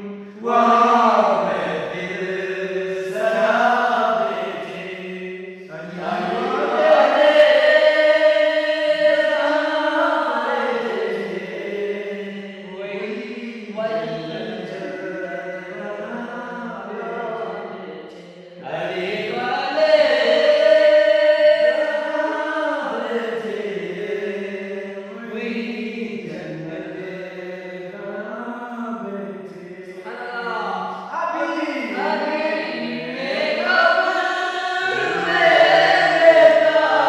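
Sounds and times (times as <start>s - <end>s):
men chanting devotional song: 0.0s - 37.0s.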